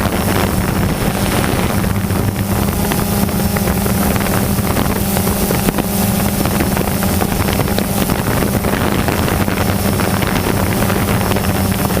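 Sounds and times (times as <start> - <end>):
drone propellers humming: 0.0 - 12.0
wind on microphone: 0.0 - 12.0.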